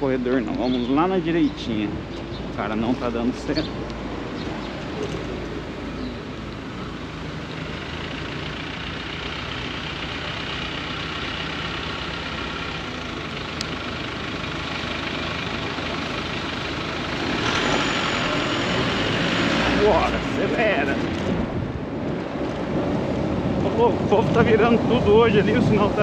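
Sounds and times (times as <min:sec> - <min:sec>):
car engines running: 0:00.0 - 0:26.0
steady traffic hiss: 0:00.0 - 0:26.0.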